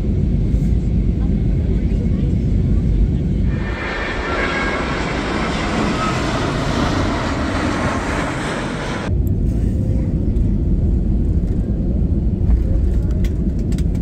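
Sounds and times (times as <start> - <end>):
deep rumble inside airliner cabin: 0.0 - 14.0
jet airliner flying overhead: 0.0 - 14.0.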